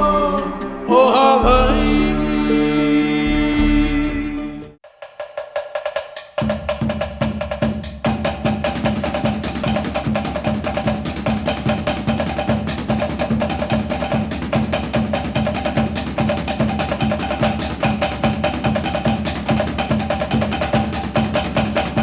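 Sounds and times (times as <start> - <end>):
music with fast drum beat: 1.4 - 22.0.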